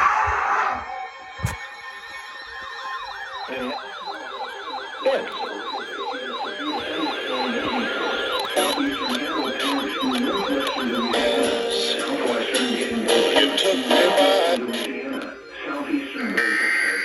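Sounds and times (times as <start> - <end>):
electronic siren yelping: 0.0 - 17.0
music: 1.5 - 15.7.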